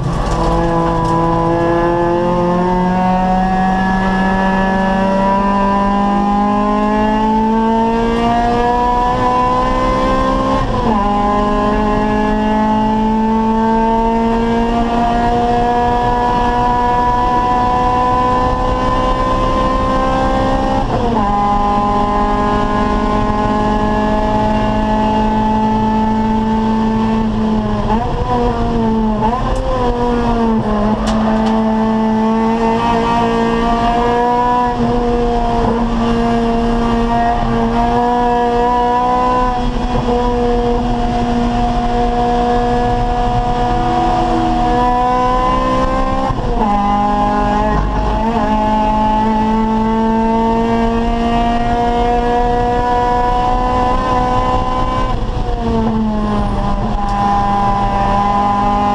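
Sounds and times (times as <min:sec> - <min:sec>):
race car engine revving: 0:00.0 - 0:58.9.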